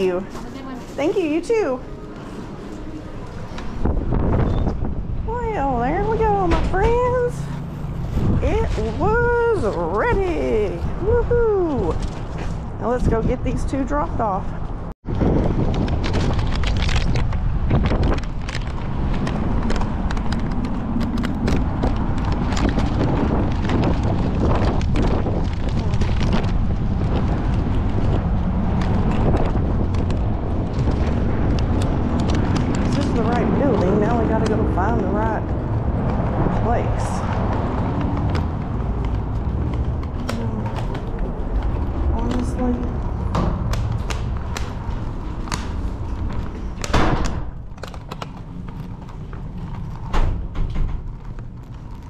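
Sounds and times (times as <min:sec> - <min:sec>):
low rumble: 0:00.0 - 0:52.0
wind buffeting microphone: 0:00.0 - 0:52.0.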